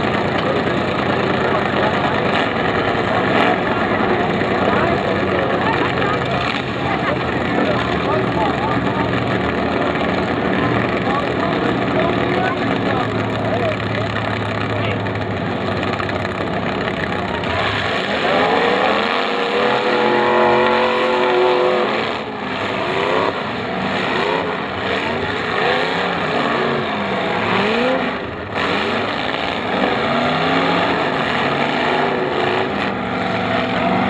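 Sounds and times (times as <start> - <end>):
car engines revving hard: 0.0 - 34.0
steady engine din: 0.0 - 34.0.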